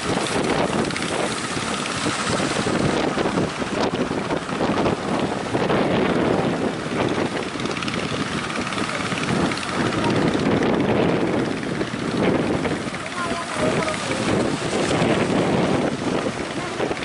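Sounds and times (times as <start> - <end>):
sea waves: 0.0 - 17.0
strong wind: 0.0 - 17.0.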